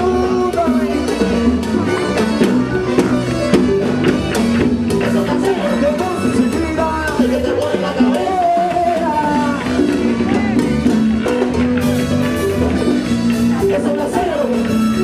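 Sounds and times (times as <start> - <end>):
salsa band playing live: 0.0 - 15.0.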